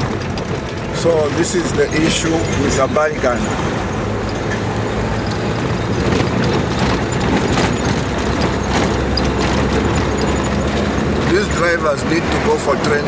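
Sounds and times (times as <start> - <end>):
engine hum and tyre noise: 0.0 - 13.0
light clicks and rattles: 0.0 - 13.0.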